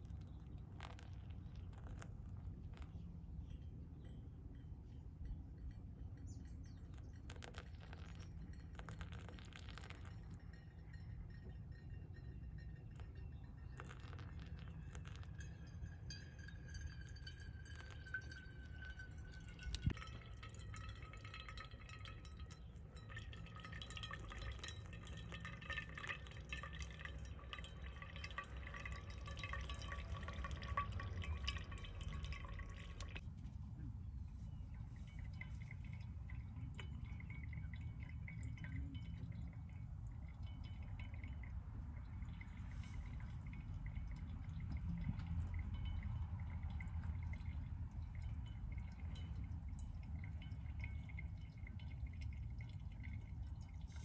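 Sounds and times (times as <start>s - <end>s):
coffee dripping into flask: 0.0s - 33.2s, 34.5s - 54.0s
water trickling onto coffee grounds: 0.0s - 33.2s, 34.2s - 54.0s.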